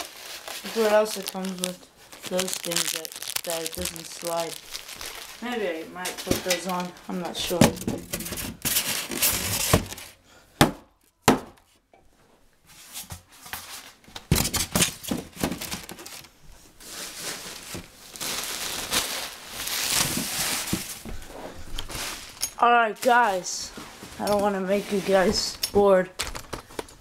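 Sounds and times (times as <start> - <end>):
styrofoam and plastic bag rustling: 0.0 - 10.2, 14.8 - 26.8.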